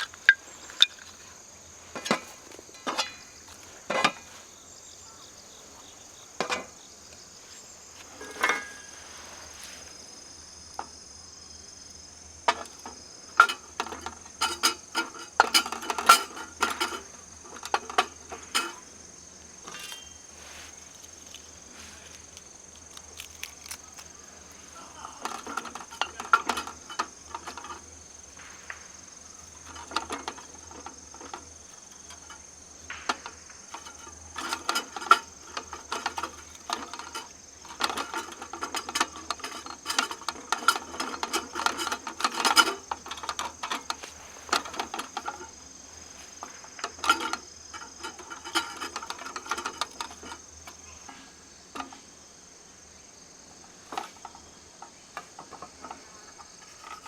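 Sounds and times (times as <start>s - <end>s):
camp gear clicking and clinking: 0.0s - 4.5s, 6.4s - 7.2s, 7.9s - 11.1s, 12.2s - 52.2s, 53.6s - 57.0s
crickets chirping: 0.0s - 57.0s.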